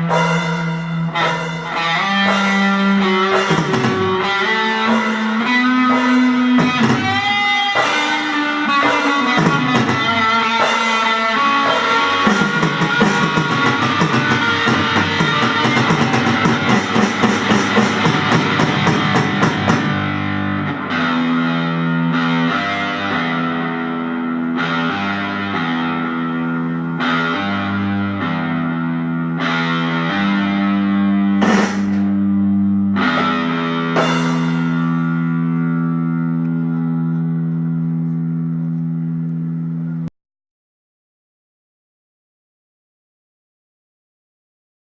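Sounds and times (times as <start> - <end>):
electric guitar rock music: 0.0 - 40.1.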